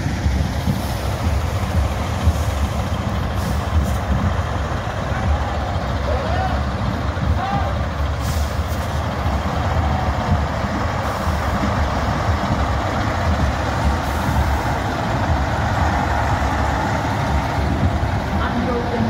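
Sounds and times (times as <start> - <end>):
heavy diesel truck engines: 0.0 - 19.0.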